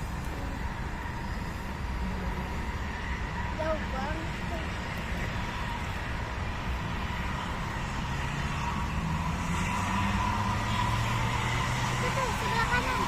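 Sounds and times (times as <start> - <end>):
outdoor noise: 0.0 - 13.0
vehicle engine humming: 0.0 - 13.0.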